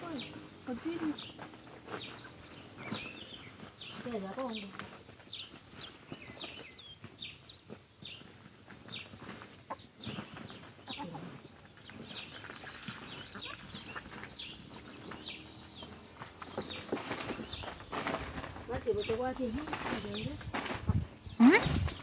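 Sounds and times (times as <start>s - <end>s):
chickens clucking and chirping: 0.0s - 22.0s.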